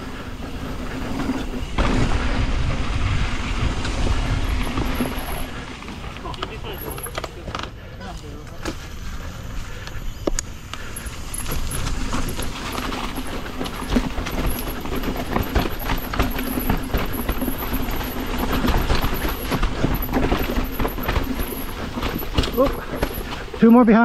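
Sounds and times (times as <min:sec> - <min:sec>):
tyres rumbling over dirt: 0:00.0 - 0:09.8, 0:10.8 - 0:24.0
bike rattling and clattering: 0:00.0 - 0:24.0.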